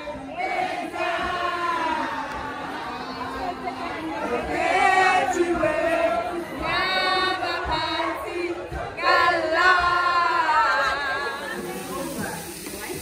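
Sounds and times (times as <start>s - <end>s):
crowd noise: 0.0s - 13.0s
women singing together: 0.0s - 13.0s.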